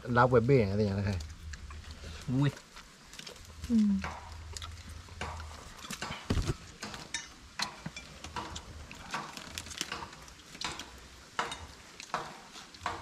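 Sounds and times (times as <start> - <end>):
crunching and chewing: 1.0 - 7.2, 7.9 - 13.0.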